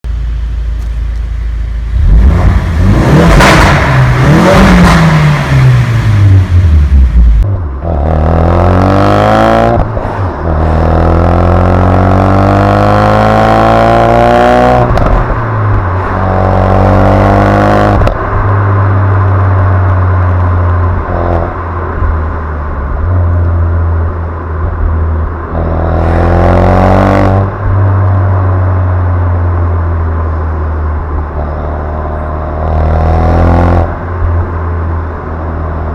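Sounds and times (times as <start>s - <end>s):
car engine revving: 1.8s - 35.9s.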